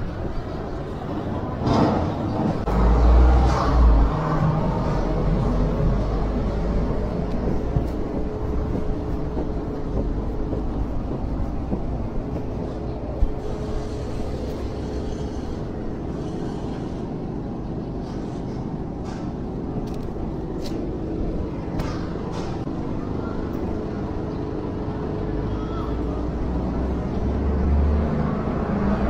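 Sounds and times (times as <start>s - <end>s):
street noise low rumble: 0.0s - 29.0s.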